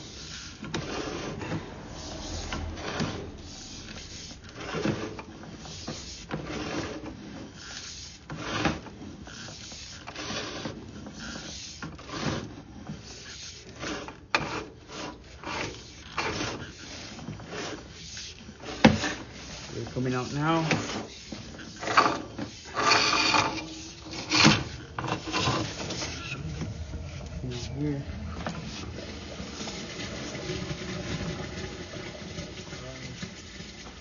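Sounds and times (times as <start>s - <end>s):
cable rubbing and scraping: 0.0s - 34.0s.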